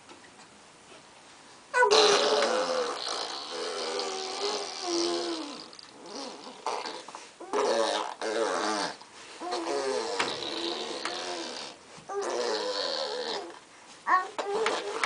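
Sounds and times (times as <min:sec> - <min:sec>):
baby making vocal noises: 0:01.7 - 0:15.0.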